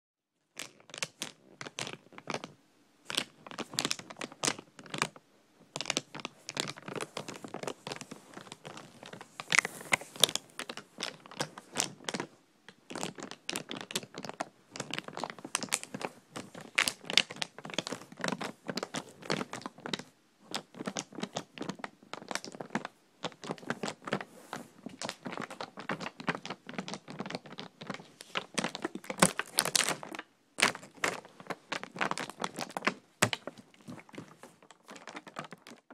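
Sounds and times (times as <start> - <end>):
plastic bottles crinkling: 5.8 - 12.3, 12.9 - 35.9.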